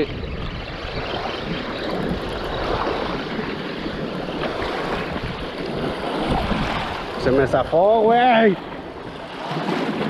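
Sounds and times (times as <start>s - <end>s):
wind noise on microphone: 0.0s - 8.1s
shallow water washing: 0.0s - 10.0s.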